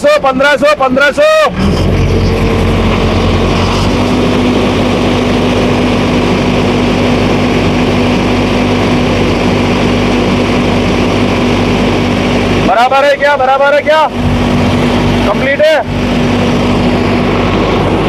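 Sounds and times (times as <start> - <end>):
second tractor engine: 0.0 - 18.0
tractor diesel engine running: 0.0 - 18.0.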